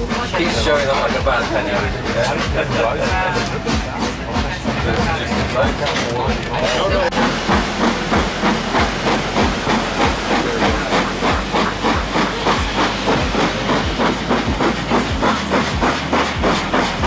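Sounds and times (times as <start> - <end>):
low knocking: 0.0 - 17.0
steam locomotive chuffing: 0.0 - 17.0.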